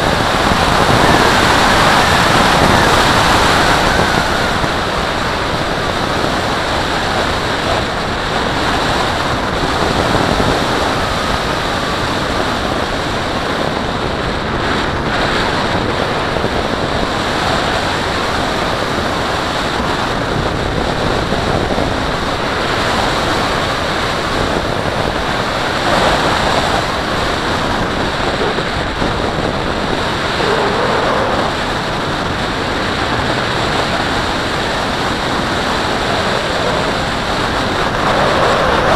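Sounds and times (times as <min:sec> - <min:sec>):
wind hiss over camera: 0:00.0 - 0:38.9.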